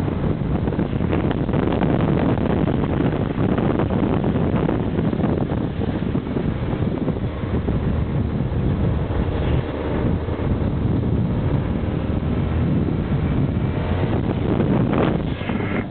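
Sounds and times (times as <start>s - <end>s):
engine and tyre rumble: 0.0s - 15.9s
wind buffeting microphone: 0.0s - 15.9s.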